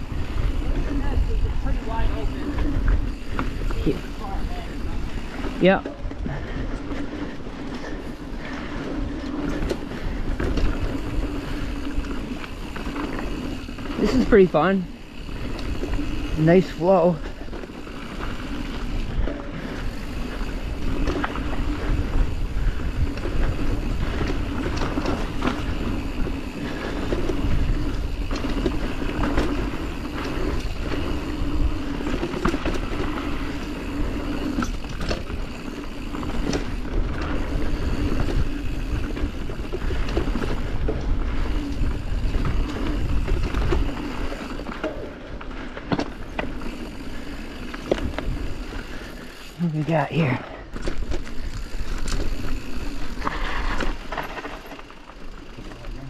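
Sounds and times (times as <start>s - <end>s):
bike clicks and knocks: 0.0s - 49.6s, 50.6s - 56.0s
tyres rumbling on dirt trail: 0.0s - 56.0s.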